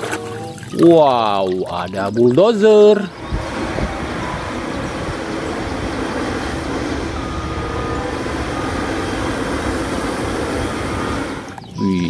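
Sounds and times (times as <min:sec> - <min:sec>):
running water rushing: 0:00.0 - 0:11.6.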